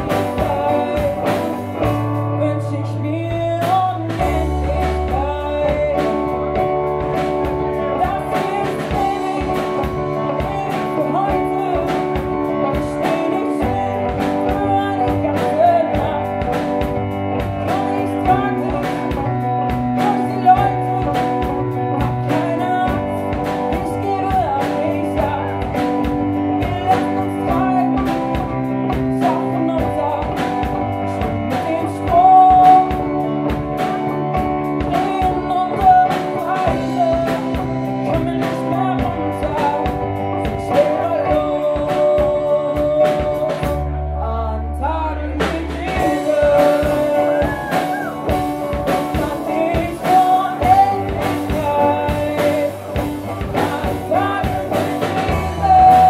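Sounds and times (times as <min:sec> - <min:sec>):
woman singing: 0:00.0 - 0:06.7, 0:07.8 - 0:33.2, 0:34.8 - 0:56.0
drums keeping a steady beat: 0:00.0 - 0:44.0, 0:45.3 - 0:56.0
electric guitar: 0:00.0 - 0:56.0
keyboard: 0:00.0 - 0:56.0.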